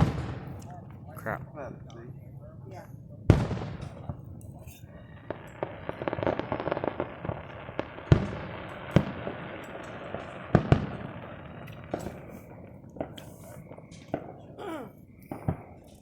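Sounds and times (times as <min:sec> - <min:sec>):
fireworks booming: 0:00.0 - 0:16.0
fireworks crackling: 0:00.0 - 0:16.0.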